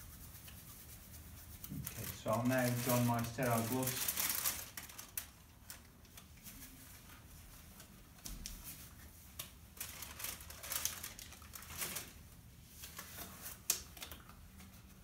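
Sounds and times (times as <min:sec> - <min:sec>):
gloves crinkling and rustling: 0:00.1 - 0:15.0.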